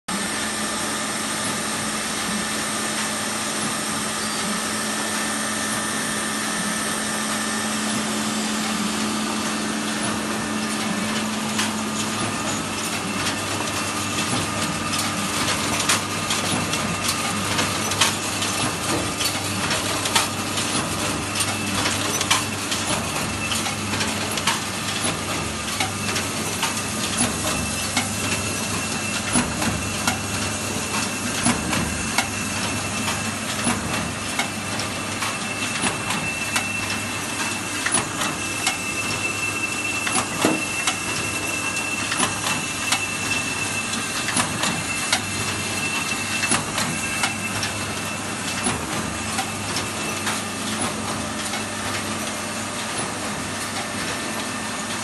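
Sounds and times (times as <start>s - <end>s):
machine humming: 0.2s - 55.0s
sharp mechanical clicks and knocks: 9.4s - 39.2s, 40.0s - 41.4s, 42.0s - 55.0s.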